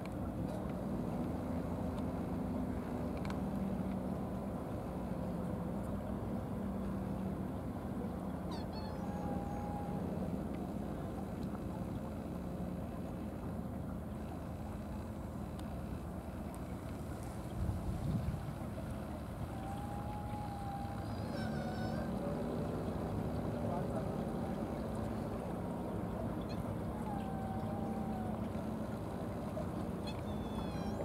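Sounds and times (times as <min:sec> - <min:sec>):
low engine drone: 0:00.0 - 0:31.0.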